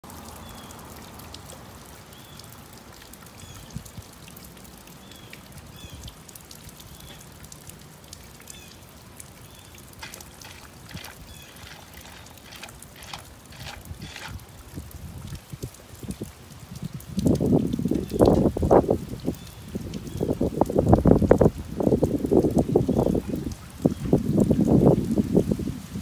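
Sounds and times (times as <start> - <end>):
close drips and spatters: 0.0 - 25.8
rain falling: 0.0 - 26.0.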